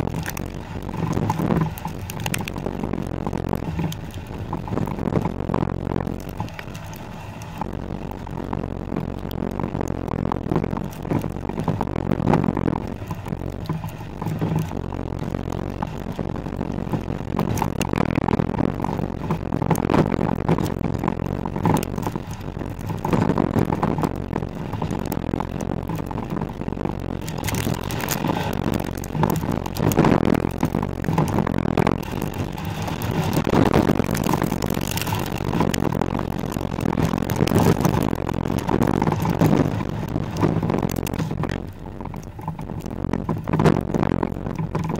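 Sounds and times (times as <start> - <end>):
grit and stones scraping underbody: 0.0 - 8.3, 9.0 - 44.9
diesel engine drone: 0.0 - 44.9
road and wind noise: 0.0 - 44.9
tyres rolling on dirt track: 6.1 - 44.9.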